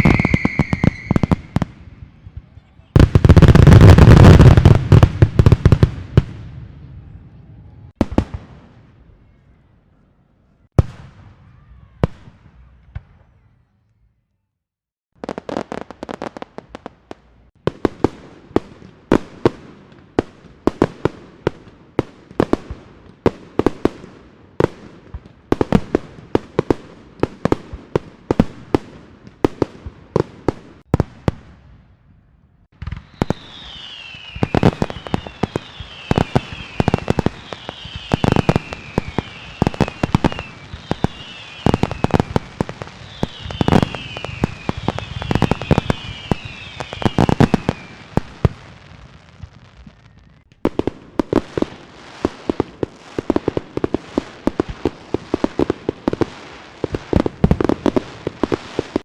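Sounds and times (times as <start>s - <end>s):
firework bangs: 0.0s - 7.2s, 7.9s - 9.0s, 15.2s - 31.8s, 32.7s - 59.0s
whistling fireworks: 0.0s - 13.8s, 15.2s - 59.0s.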